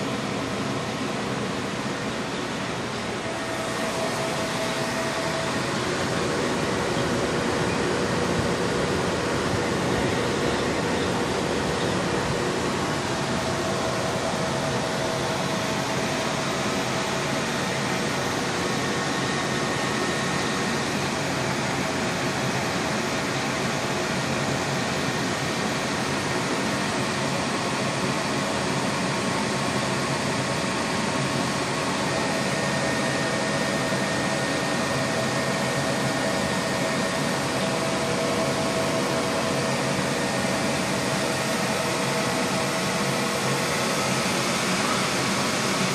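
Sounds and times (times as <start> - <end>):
cooling fans whirring: 0.0 - 45.9.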